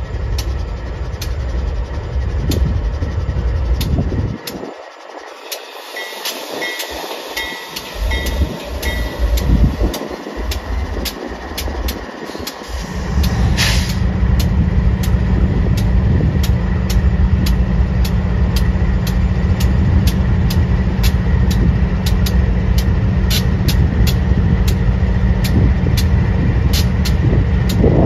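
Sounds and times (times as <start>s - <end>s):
diesel locomotive rumbling: 0.0s - 28.0s.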